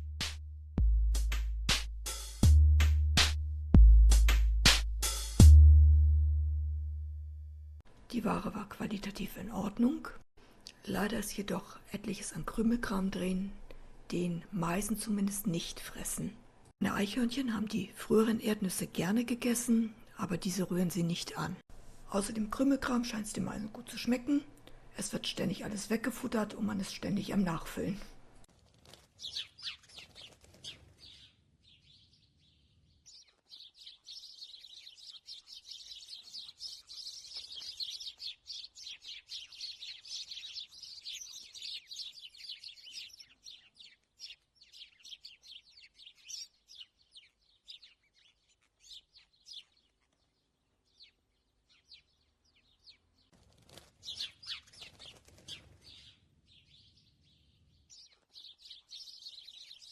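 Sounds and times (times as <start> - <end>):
songbirds chirping: 7.9 - 59.9.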